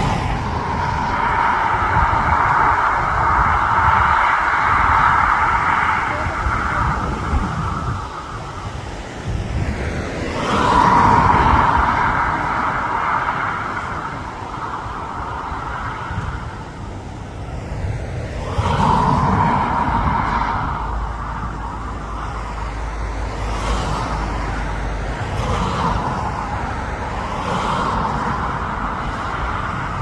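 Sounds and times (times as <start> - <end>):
cars passing: 0.0 - 30.0
wind buffeting microphone: 0.0 - 30.0.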